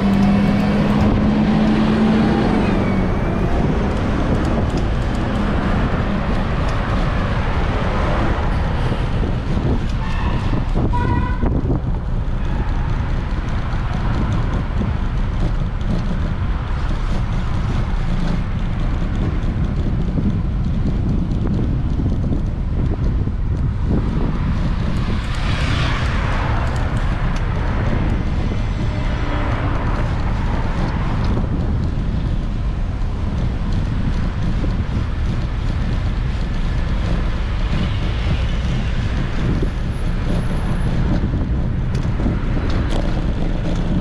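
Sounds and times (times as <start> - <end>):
street traffic passing: 0.0 - 44.0
wind buffeting microphone: 0.0 - 44.0.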